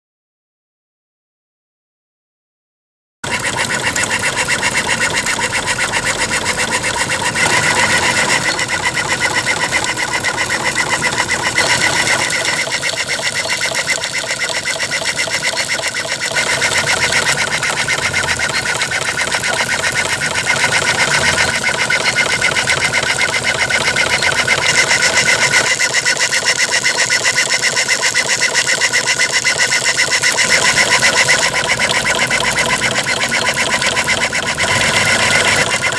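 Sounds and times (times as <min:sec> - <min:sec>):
steam traction engine running: 0:03.2 - 0:35.9.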